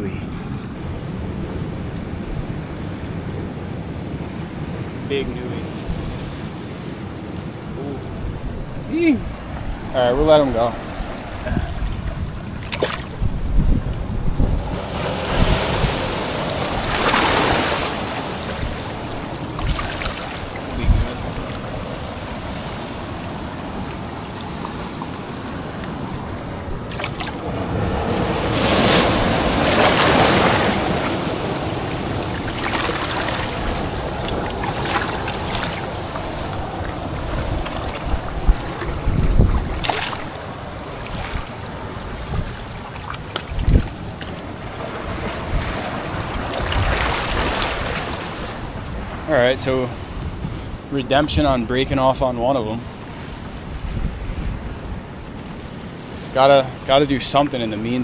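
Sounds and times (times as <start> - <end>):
wind on microphone: 0.0 - 49.3, 49.9 - 52.0, 53.1 - 56.0
surf washing over rocks: 0.0 - 58.0.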